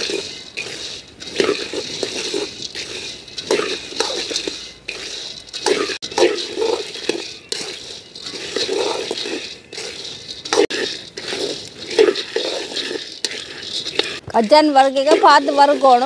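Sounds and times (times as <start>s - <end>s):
peanuts rattling in a wok: 0.0s - 16.0s.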